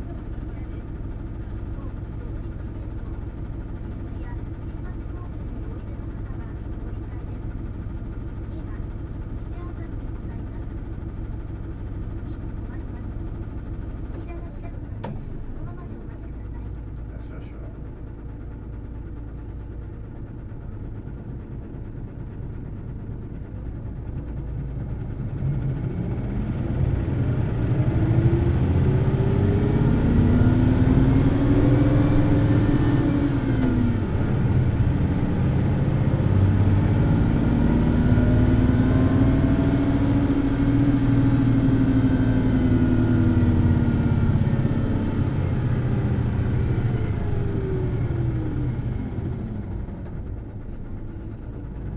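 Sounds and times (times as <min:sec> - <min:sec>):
bus diesel engine revving: 0:00.0 - 0:16.5, 0:20.1 - 0:51.9.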